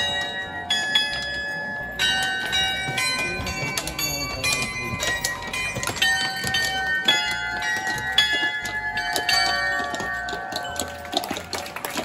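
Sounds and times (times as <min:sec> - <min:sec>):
bells ringing in quick run: 0:00.0 - 0:12.0.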